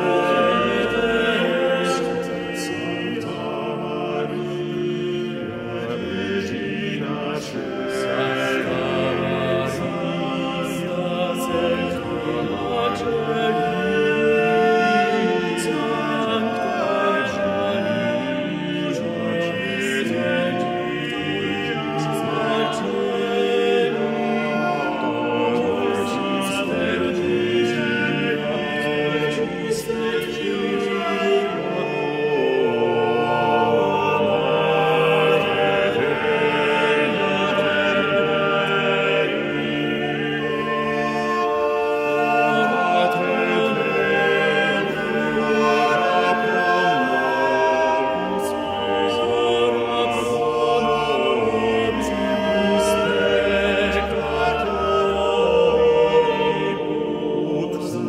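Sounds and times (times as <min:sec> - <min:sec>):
male vocal ensemble singing: 0:00.0 - 0:58.0.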